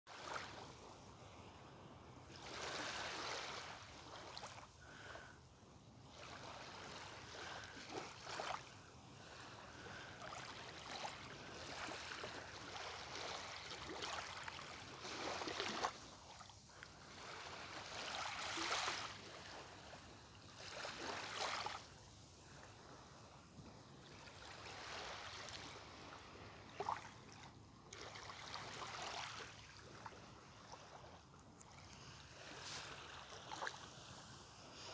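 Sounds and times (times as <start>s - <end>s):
gentle waves on sandy beach: 0.1s - 34.9s.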